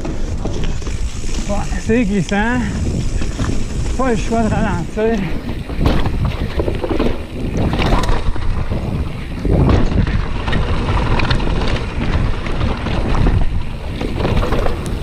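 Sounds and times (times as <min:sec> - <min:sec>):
bike frame rattling: 0:00.0 - 0:15.0
bike tyres rolling and knocking: 0:00.0 - 0:15.0
wind buffeting microphone: 0:00.0 - 0:15.0.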